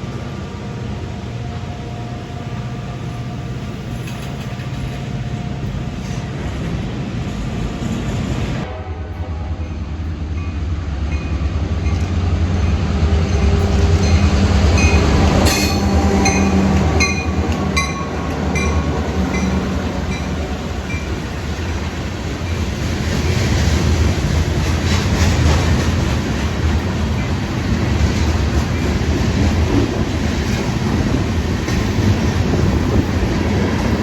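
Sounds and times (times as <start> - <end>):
train rumbling by: 0.0 - 34.0.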